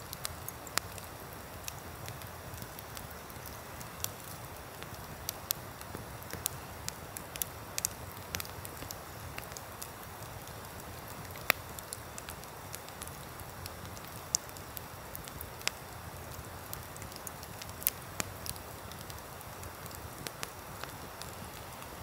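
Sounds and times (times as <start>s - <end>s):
campfire pops and crackles: 0.0s - 22.0s
fire hissing: 0.0s - 22.0s.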